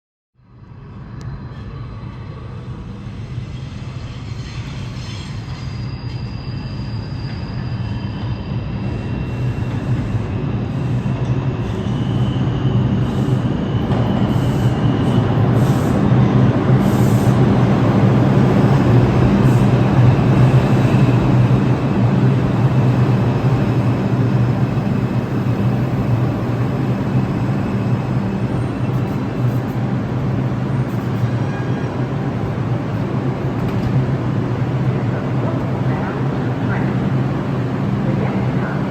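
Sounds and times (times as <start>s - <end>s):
subway train running: 0.4s - 38.9s.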